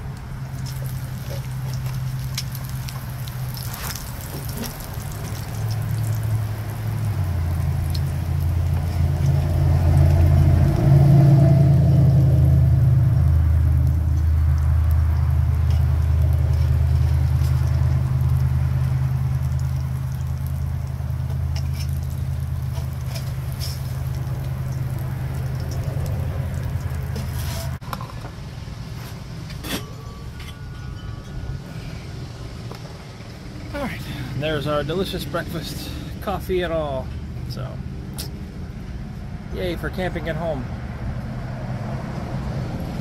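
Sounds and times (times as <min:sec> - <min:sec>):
low engine-like rumble: 0:00.0 - 0:43.0.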